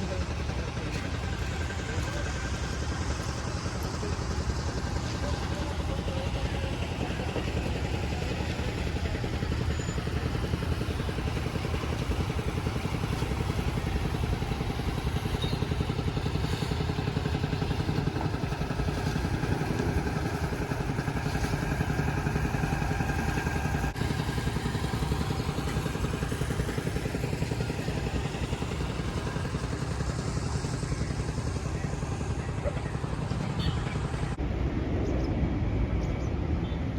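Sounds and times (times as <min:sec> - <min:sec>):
vehicle engine running: 0:00.0 - 0:34.4
road noise: 0:00.0 - 0:36.9.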